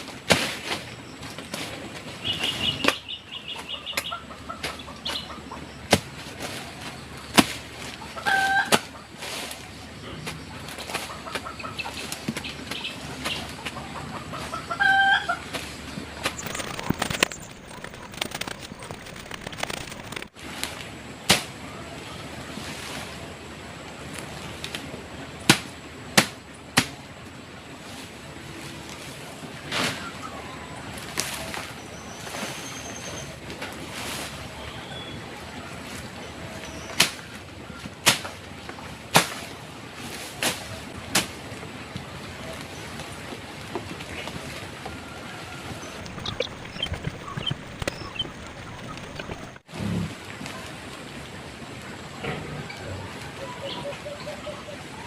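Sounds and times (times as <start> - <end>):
wind-like background noise: 0.0 - 55.0.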